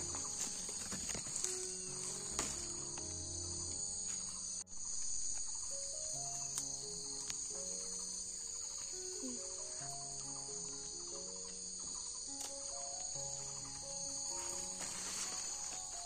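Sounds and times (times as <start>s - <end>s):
background music of held notes: 0.0s - 16.0s
insect chorus chirring: 0.0s - 16.0s.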